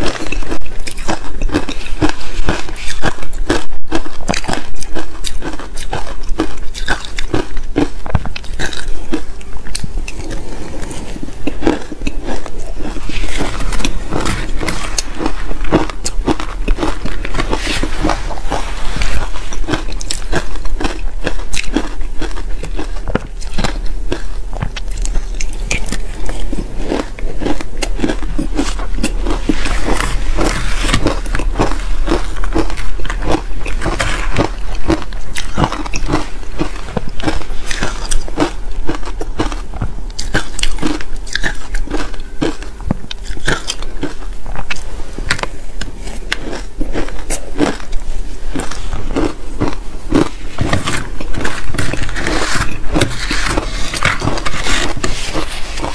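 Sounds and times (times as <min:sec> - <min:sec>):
chewing crunchy shaved ice: 0:00.0 - 0:55.9
steady low hum: 0:00.0 - 0:55.9.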